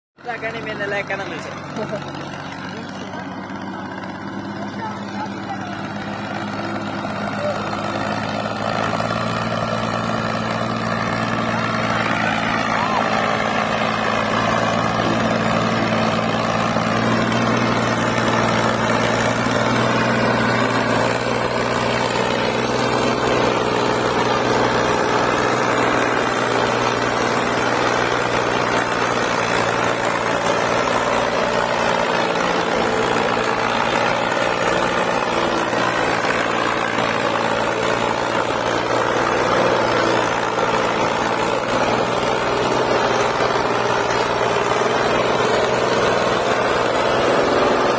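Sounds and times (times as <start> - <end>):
tractor diesel engine running: 0.2 - 47.9.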